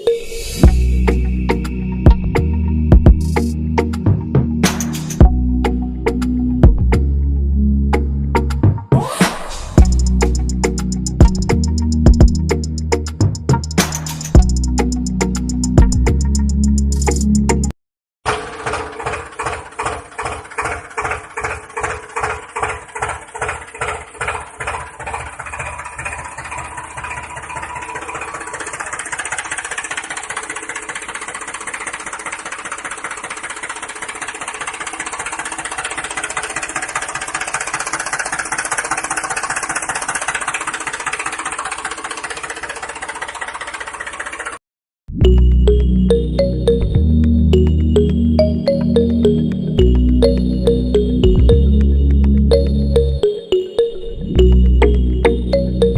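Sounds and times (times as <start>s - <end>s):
engine chugging: 0.5s - 7.2s, 9.6s - 44.6s, 45.2s - 55.9s.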